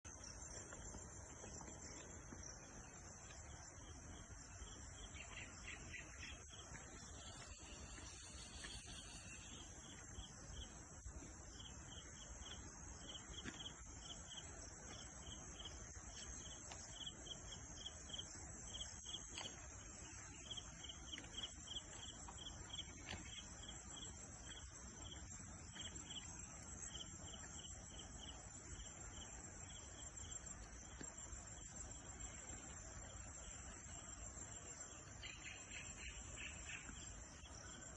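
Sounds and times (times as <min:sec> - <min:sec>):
crickets trilling: 0:00.1 - 0:37.9.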